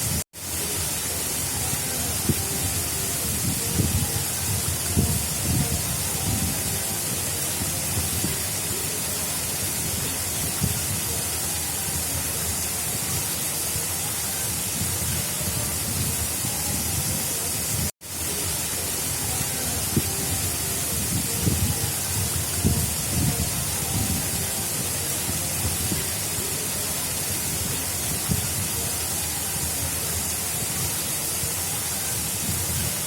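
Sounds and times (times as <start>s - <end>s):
water rushing in a channel: 0.0s - 33.0s.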